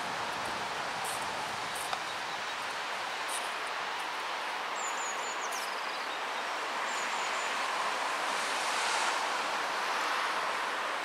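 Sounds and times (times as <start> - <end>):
road traffic hiss: 0.0 - 11.0.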